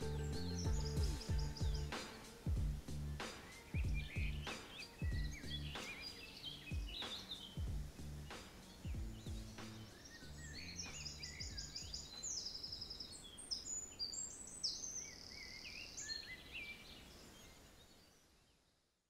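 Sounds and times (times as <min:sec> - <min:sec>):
songbirds singing: 0:00.0 - 0:18.8.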